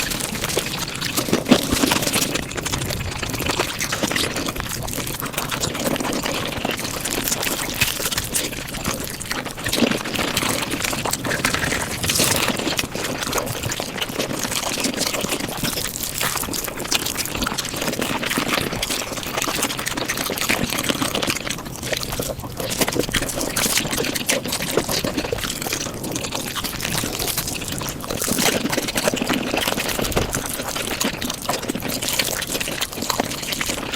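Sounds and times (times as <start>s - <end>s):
sped-up eating clicks and crackles: 0.0s - 33.9s.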